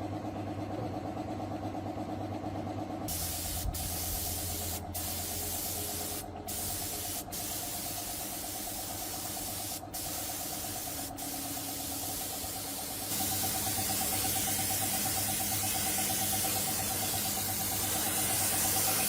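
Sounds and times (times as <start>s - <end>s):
pressurised spray hissing: 3.1s - 19.0s.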